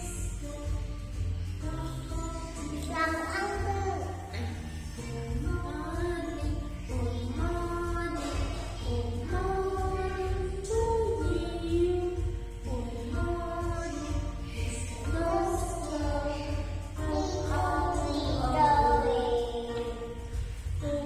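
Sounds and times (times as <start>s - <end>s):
backing music: 0.0s - 21.0s
person singing: 1.6s - 21.0s.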